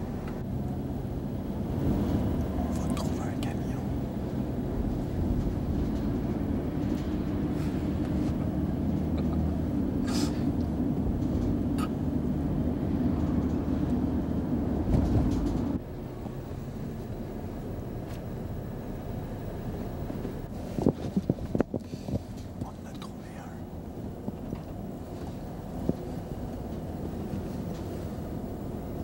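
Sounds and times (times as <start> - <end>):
car cabin road rumble: 0.0 - 29.0.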